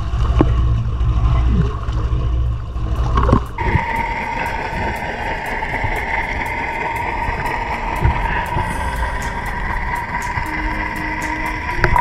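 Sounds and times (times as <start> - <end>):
low steady rumble: 0.0 - 12.0
muffled underwater hum: 0.0 - 12.0.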